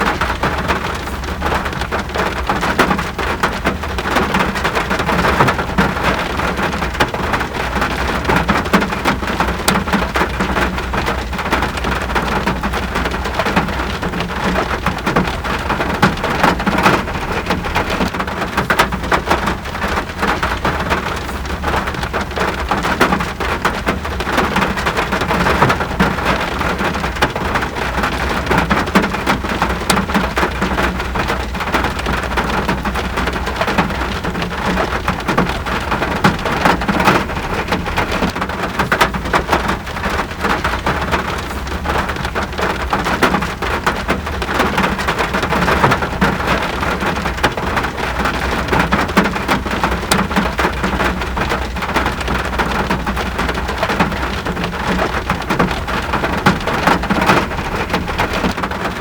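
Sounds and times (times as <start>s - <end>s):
rain drops hitting surfaces: 0.0s - 59.0s.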